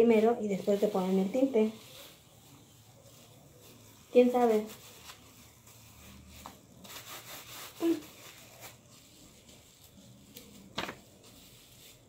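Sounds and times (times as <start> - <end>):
soft rubbing of comb in hair: 0.0 - 12.0.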